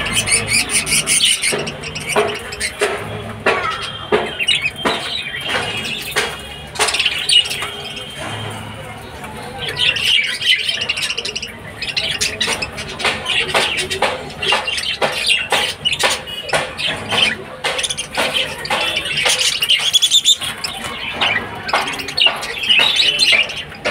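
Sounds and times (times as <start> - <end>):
budgerigars chirping: 0.0 - 8.2, 9.6 - 23.9.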